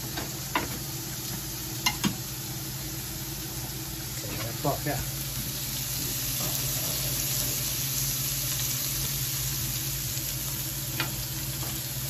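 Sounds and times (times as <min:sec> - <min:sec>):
carrots sizzling in a grill pan: 0:00.0 - 0:12.0.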